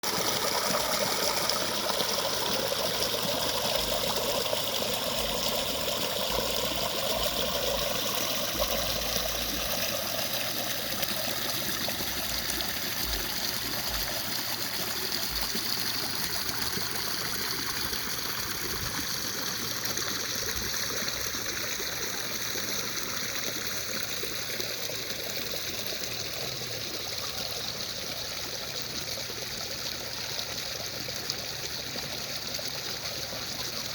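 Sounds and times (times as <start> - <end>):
stream rushing over rocks: 0.0 - 32.4.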